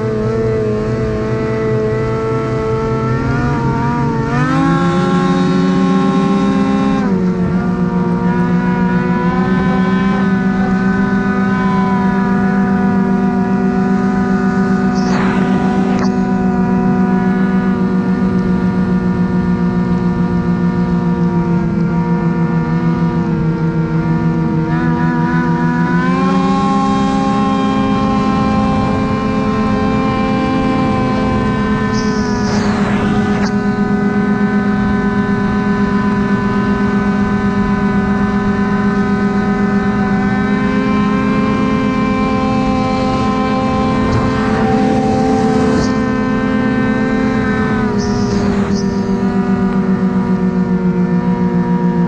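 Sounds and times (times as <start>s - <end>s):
snowmobile engine revving: 0.0s - 52.0s.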